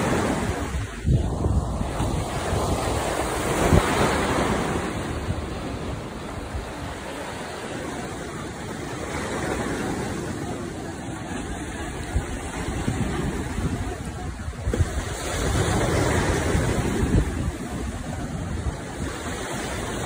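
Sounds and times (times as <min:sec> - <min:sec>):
wind buffeting microphone: 0:00.0 - 0:08.8, 0:09.4 - 0:20.0
surf breaking on rocky shore: 0:00.0 - 0:20.0.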